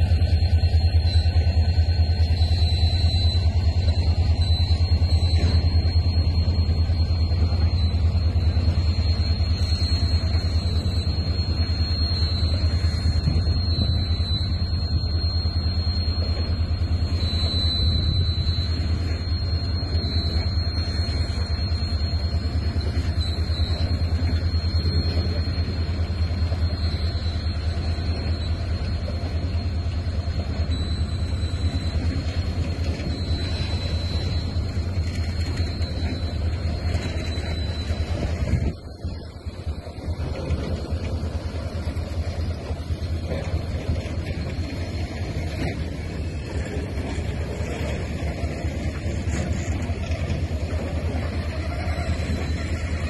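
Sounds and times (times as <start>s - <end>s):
freight train rumbling past: 0.0s - 53.0s
high whine: 0.0s - 53.0s.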